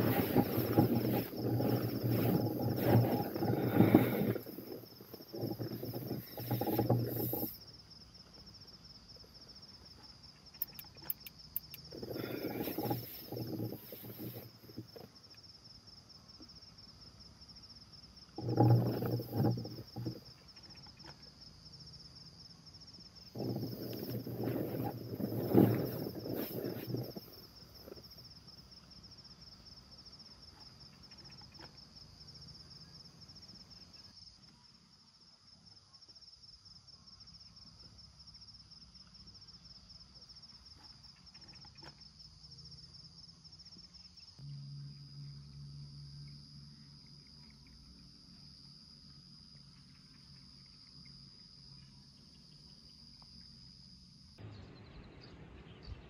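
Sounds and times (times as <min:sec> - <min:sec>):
night insects chirring: 0:00.0 - 0:56.0.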